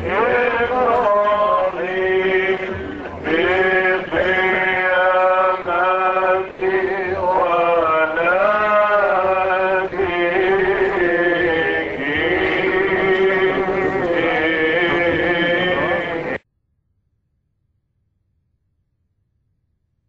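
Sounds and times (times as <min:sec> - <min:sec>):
person chanting in held notes: 0:00.0 - 0:16.4.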